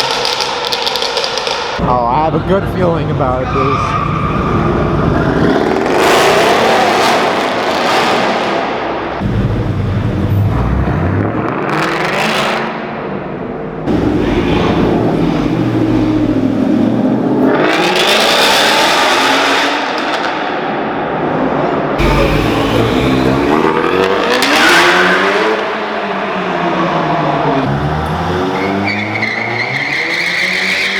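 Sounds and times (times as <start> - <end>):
cars accelerating hard: 0.0 - 30.9.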